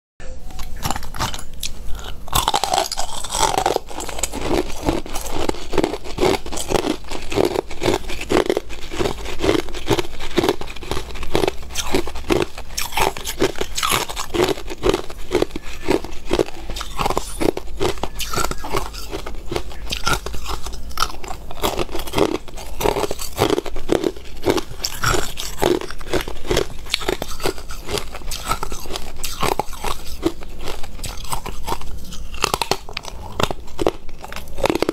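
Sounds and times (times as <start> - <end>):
ice being chewed: 0.5 - 34.9.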